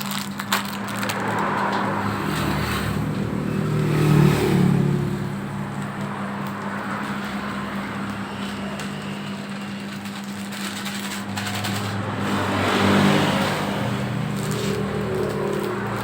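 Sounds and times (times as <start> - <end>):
dough churning in bowl: 0.0 - 16.0
dough mixer motor hum: 1.2 - 16.0.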